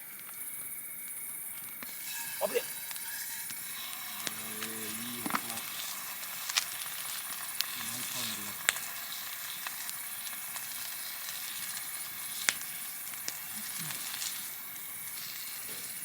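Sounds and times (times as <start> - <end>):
fire crackling pops: 0.0 - 16.0
food sizzling: 0.0 - 16.0.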